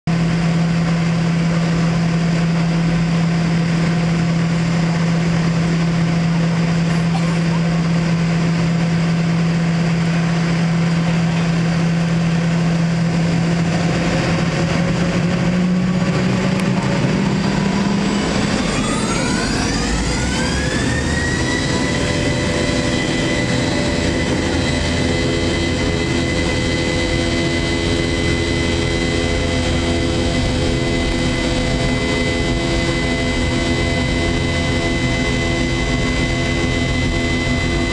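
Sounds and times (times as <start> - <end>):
jet engine humming and whining: 0.1 - 37.9.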